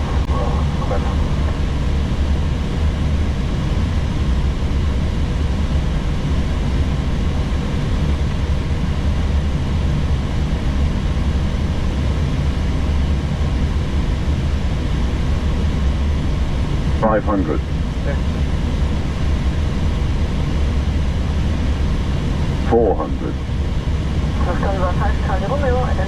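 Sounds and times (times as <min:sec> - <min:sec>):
aircraft engine and airflow rumble: 0:00.0 - 0:26.0.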